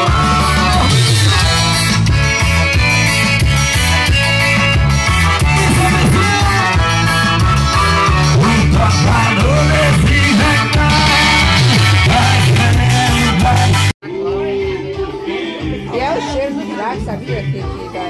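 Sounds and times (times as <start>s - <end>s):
dance music with singer: 0.0s - 18.0s.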